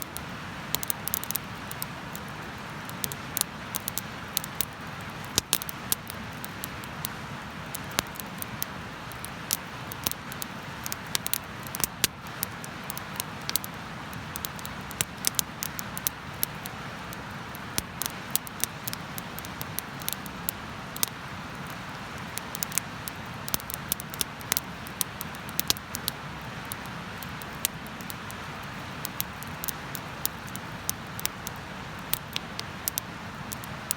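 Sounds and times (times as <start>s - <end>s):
bonfire crackling and popping: 0.0s - 33.9s.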